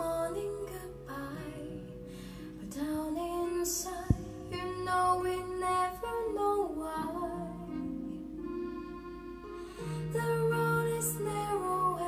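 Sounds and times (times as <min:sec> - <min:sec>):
woman singing song over speakers: 0:00.0 - 0:08.4, 0:09.9 - 0:12.0.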